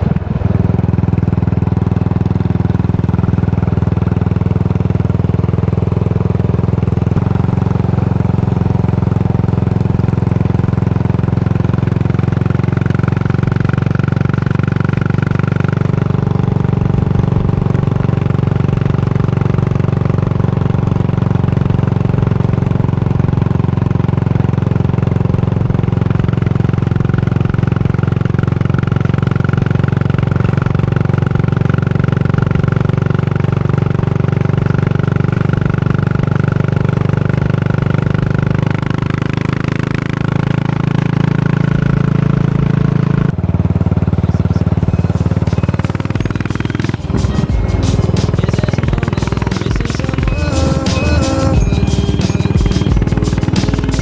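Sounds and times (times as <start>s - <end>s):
single-cylinder motorcycle engine running: 0.0s - 54.0s.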